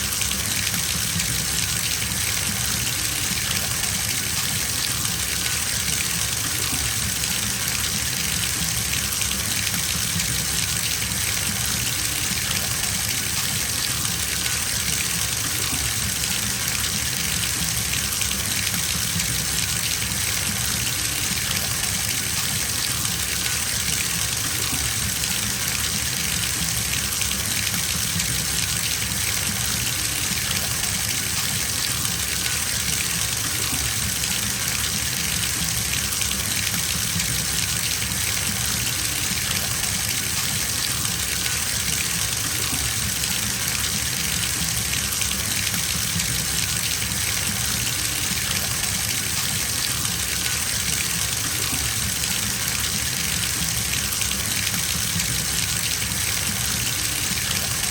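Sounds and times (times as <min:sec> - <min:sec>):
tap water filling bathtub: 0:00.0 - 0:57.9.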